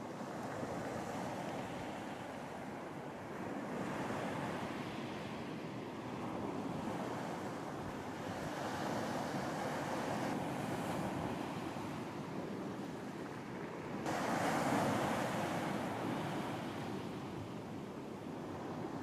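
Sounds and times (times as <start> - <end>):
wind: 0.0 - 19.0
ocean surf washing onto beach: 0.2 - 19.0.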